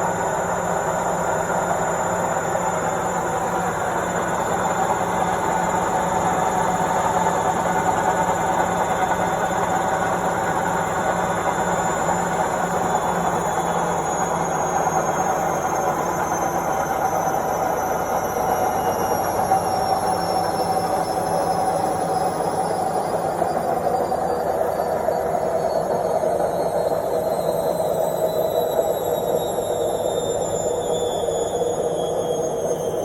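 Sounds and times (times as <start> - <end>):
washing machine spinning: 0.0 - 33.0.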